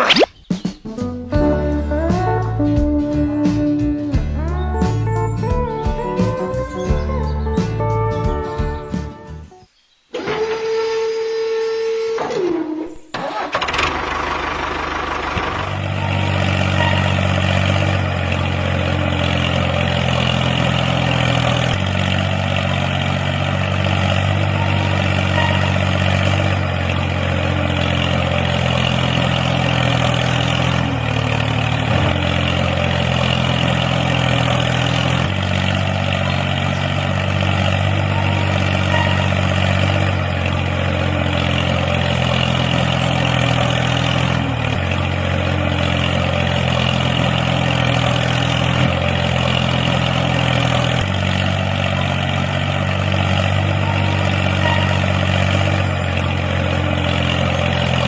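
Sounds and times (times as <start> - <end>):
tractor engine starting and idling: 1.3 - 58.0.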